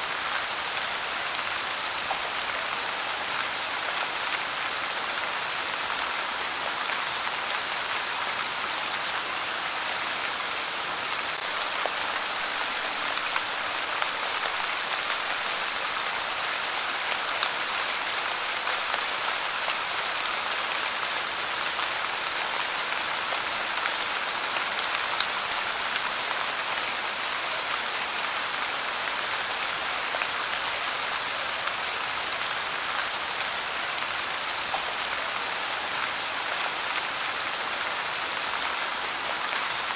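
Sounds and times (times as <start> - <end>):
light rain: 0.0 - 39.9.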